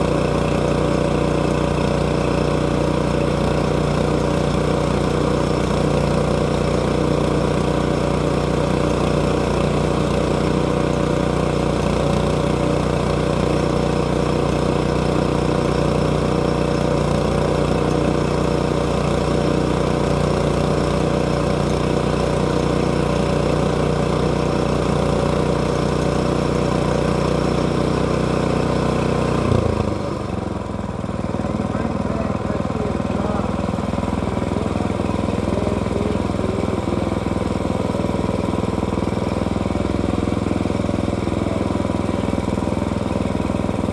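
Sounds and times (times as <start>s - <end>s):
petrol engine running: 0.0s - 43.9s.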